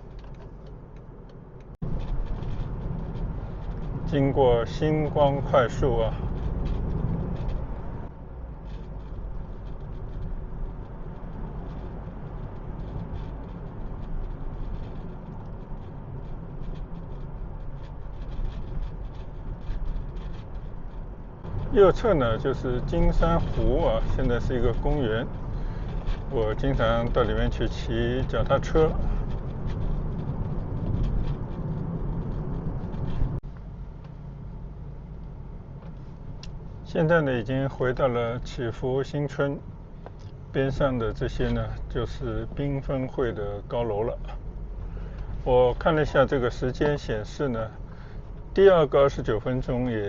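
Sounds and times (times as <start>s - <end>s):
road and engine rumble in car: 0.0s - 50.0s.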